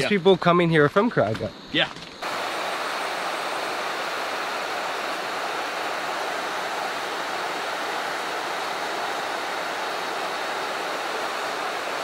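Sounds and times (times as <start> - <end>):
waterfall rushing: 2.2 - 12.0.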